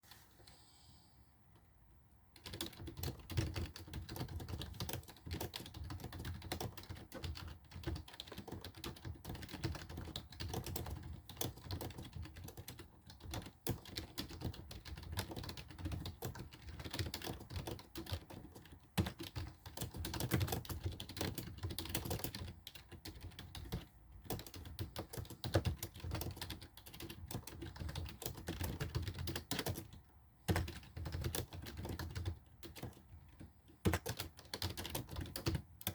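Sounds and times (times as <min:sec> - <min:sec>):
fast keyboard typing: 0:02.3 - 0:35.9.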